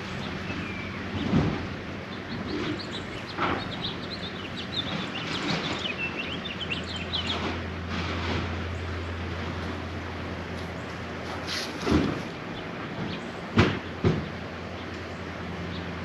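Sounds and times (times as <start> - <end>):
small birds chirping: 0.0 - 7.8, 10.6 - 16.0
outdoor background noise: 0.0 - 16.0.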